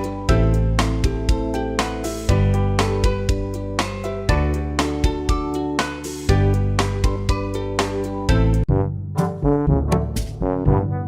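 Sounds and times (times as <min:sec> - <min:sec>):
upbeat plucked background music: 0:00.0 - 0:11.0.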